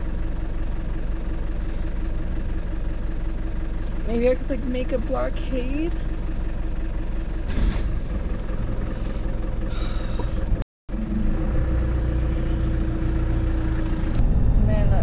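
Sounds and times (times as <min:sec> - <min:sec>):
engine running inside cab: 0:00.0 - 0:15.0.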